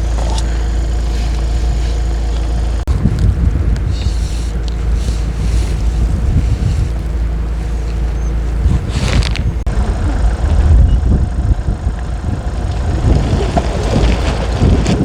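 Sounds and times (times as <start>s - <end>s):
gusting wind buffeting microphone: 0.0s - 15.0s.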